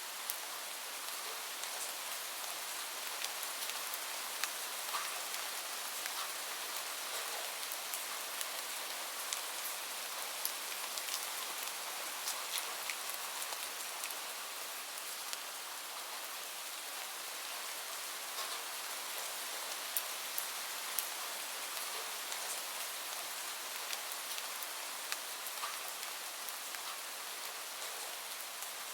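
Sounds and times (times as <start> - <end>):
gentle rain hiss: 0.0 - 28.9.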